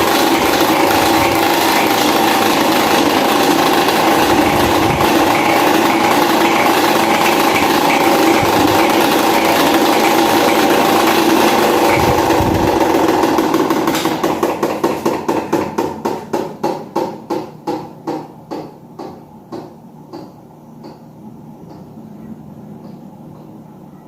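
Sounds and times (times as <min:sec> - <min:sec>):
fan blades ticking: 0:00.0 - 0:22.0
electric fan running: 0:00.0 - 0:24.0.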